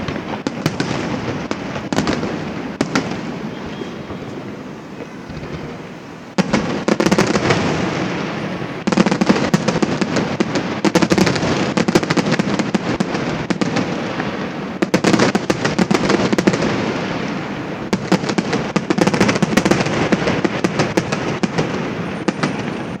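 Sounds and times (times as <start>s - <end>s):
fireworks popping and crackling: 0.0s - 23.0s.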